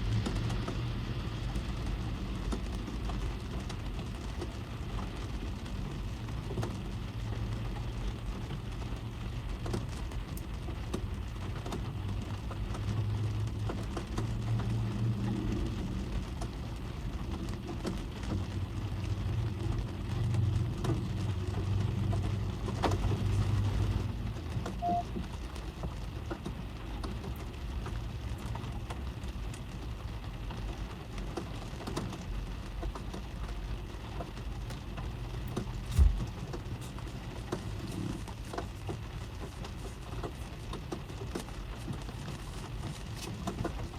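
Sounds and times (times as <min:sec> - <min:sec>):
rain on car roof: 0:00.0 - 0:43.9.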